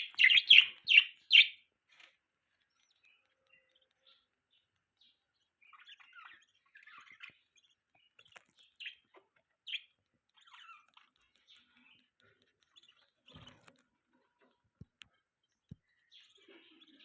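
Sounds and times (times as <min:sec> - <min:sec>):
budgerigars chirping: 0:00.0 - 0:01.7, 0:02.5 - 0:13.8, 0:15.8 - 0:17.0.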